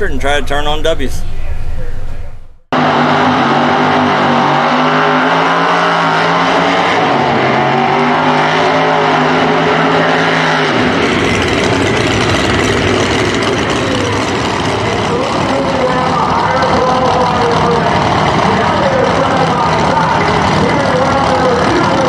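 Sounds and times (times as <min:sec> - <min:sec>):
drag car engines revving high: 0:00.0 - 0:22.0
full-throttle engine launch: 0:00.0 - 0:22.0.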